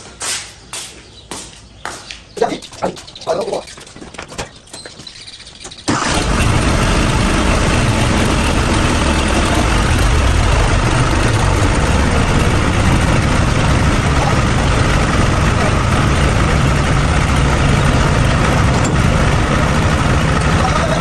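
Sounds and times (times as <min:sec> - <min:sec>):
tractor engine starting and running: 0:02.4 - 0:21.0.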